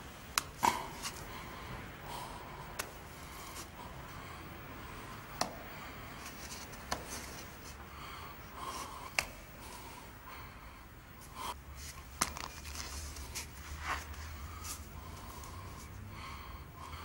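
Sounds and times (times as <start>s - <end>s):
climber breathing and gasping: 0.6s - 17.0s.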